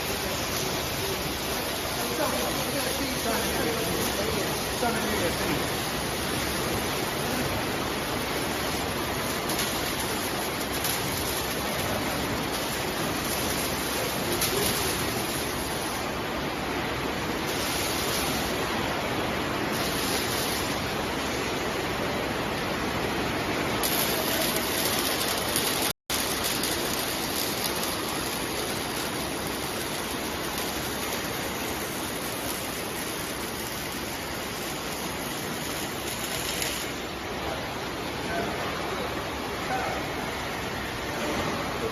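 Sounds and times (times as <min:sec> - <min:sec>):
welding arc hissing: 0:00.0 - 0:37.7.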